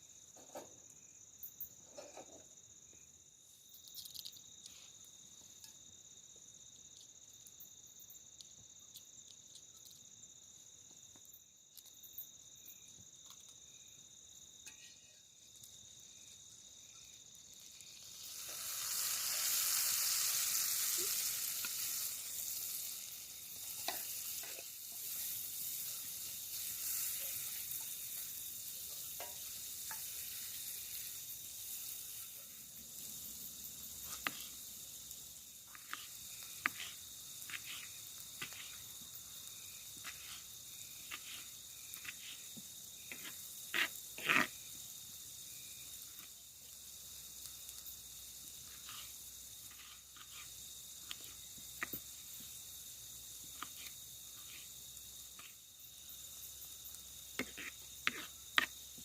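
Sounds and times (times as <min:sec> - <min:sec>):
food sizzling over campfire: 0:00.0 - 0:59.0
fire crackles and clicks: 0:06.7 - 0:12.4, 0:15.4 - 0:59.0.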